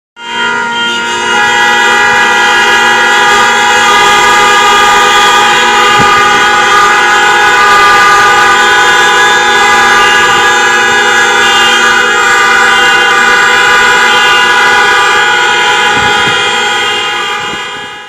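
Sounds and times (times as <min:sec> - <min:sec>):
loud horn held continuously: 0:00.2 - 0:18.0.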